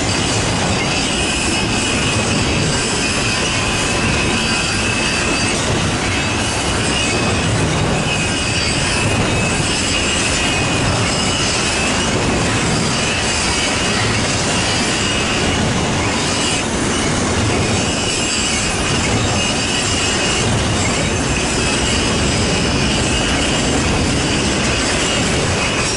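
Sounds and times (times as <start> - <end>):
high wheel squeal: 0.0 - 25.9
train wheels on rails: 0.0 - 25.9.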